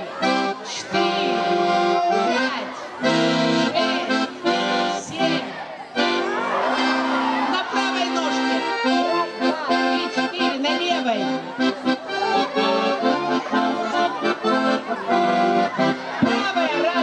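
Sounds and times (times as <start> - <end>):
accordion folk dance tune: 0.0 - 17.0.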